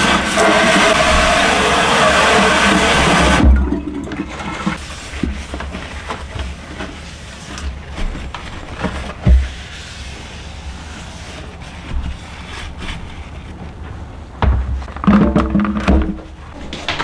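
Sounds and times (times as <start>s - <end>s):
paper towel rubbing sink: 0.0s - 14.2s.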